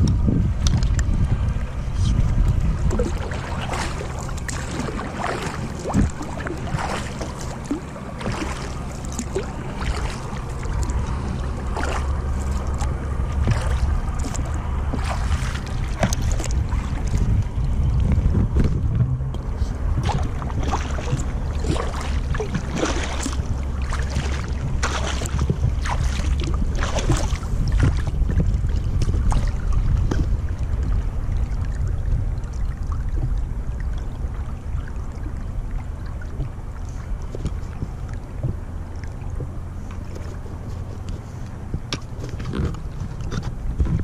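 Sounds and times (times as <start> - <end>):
paddle splashing water: 0.0 - 44.0
water washing along hull: 0.0 - 44.0
wind rumble on microphone: 0.0 - 44.0.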